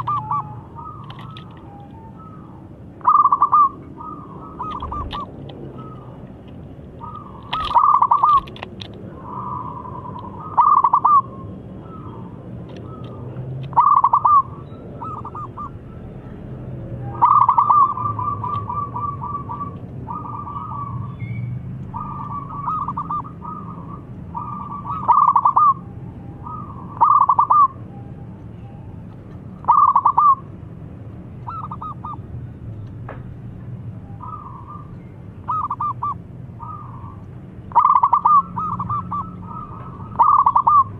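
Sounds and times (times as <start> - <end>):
dove cooing: 0.0 - 6.2, 6.9 - 16.1, 17.0 - 21.0, 21.9 - 25.8, 26.4 - 27.8, 29.6 - 30.5, 31.4 - 32.2, 34.2 - 40.9.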